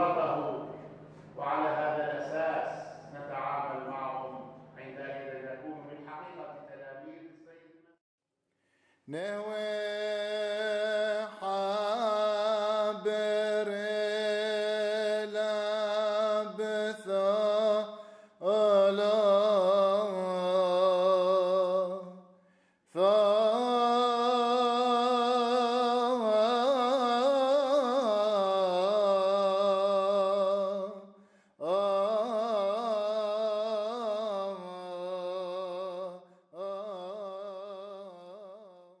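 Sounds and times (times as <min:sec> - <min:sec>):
man chanting: 0:00.0 - 0:07.9, 0:09.1 - 0:22.2, 0:22.9 - 0:39.0.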